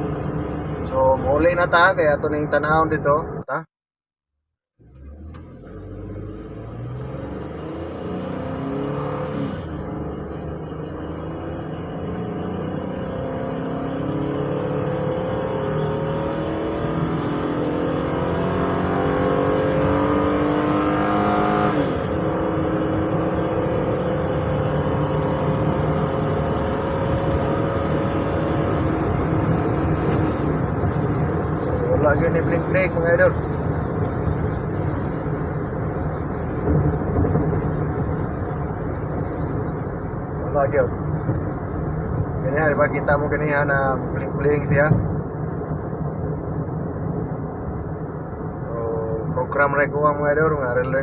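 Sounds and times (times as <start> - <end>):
road noise: 0.0 - 3.7, 4.8 - 51.0
van engine accelerating: 4.8 - 51.0.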